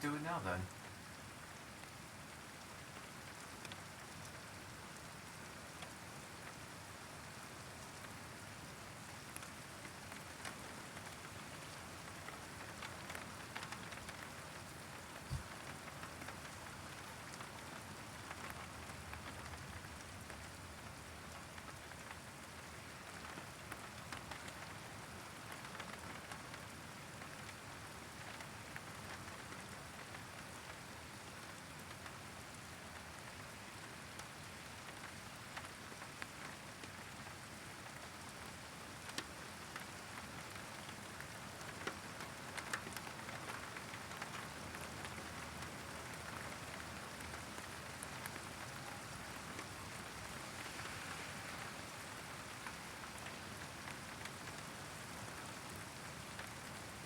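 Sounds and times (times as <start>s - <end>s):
raindrops ticking on something: 0.0s - 57.0s
steady rain: 0.0s - 57.0s.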